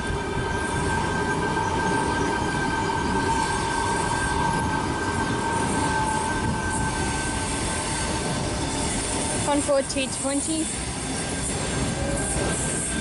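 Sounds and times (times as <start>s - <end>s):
high-pitched train tones: 0.0s - 13.0s
train wheels rumbling on rail: 0.0s - 13.0s.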